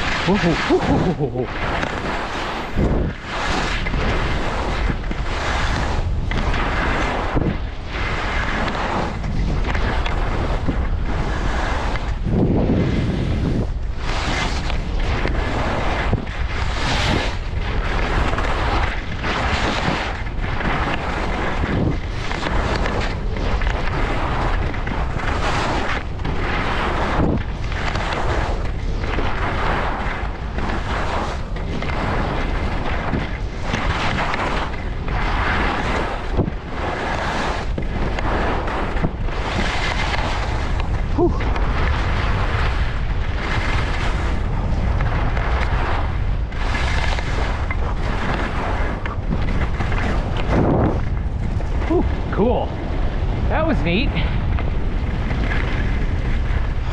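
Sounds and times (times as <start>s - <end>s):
skis scraping over snow: 0.0s - 56.9s
wind buffeting microphone: 0.0s - 56.9s.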